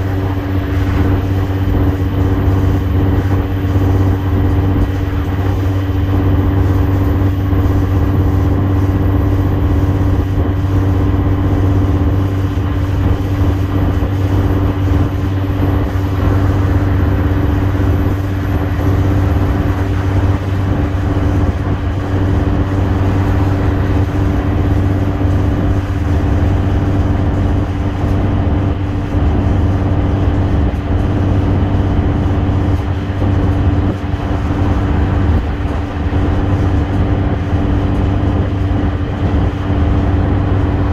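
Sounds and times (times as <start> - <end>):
bus diesel engine running: 0.0 - 40.9
tyre and road noise: 0.0 - 40.9.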